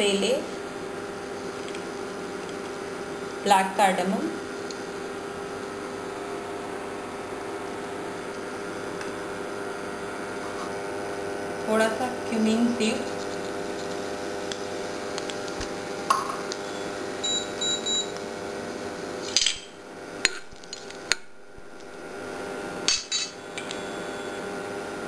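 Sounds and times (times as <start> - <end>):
induction cooktop electrical hum: 0.0 - 25.0.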